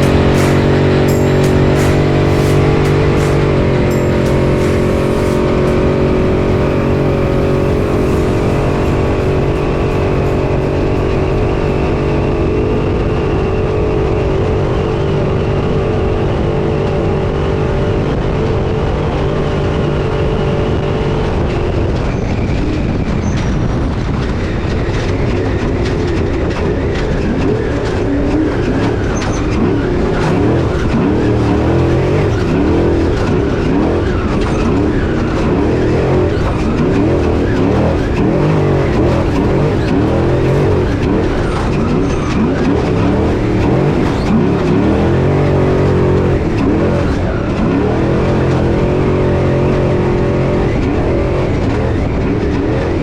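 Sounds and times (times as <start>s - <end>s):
knocks and rattles: 0.0s - 14.7s, 18.7s - 53.0s
truck engine revving: 0.0s - 53.0s.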